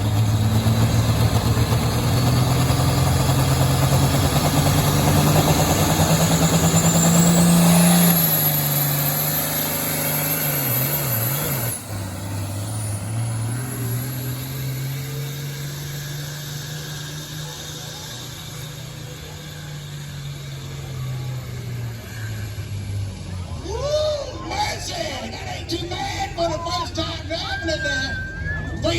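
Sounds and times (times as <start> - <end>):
high turbo whine: 0.0 - 28.9
tractor diesel engine under load: 0.0 - 28.9.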